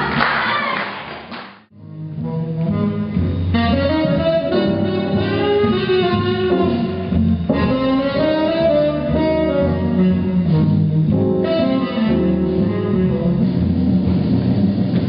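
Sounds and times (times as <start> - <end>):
swing jazz music: 1.8 - 15.0.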